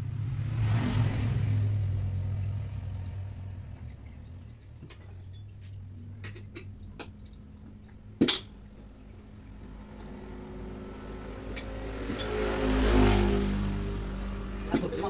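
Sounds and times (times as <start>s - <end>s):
low engine hum: 0.0s - 15.0s
motor vehicle engine: 0.0s - 15.0s.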